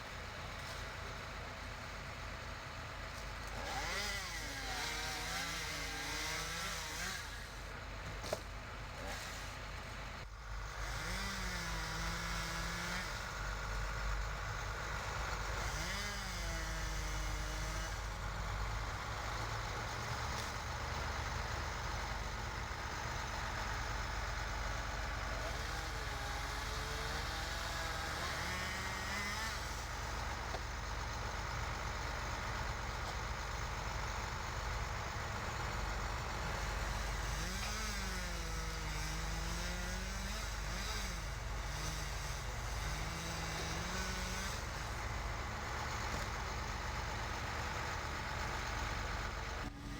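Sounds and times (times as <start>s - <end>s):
heavy engine idling: 0.0s - 49.9s.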